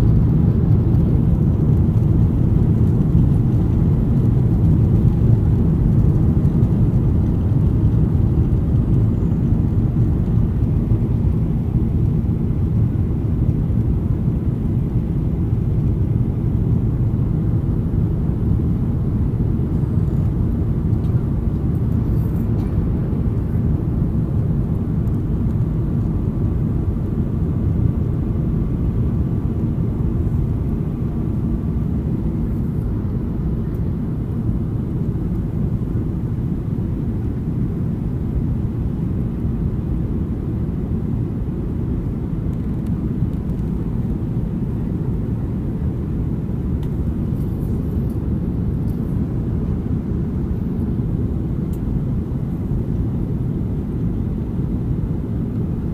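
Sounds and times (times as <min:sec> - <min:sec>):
airplane engines rumbling: 0:00.0 - 0:55.9.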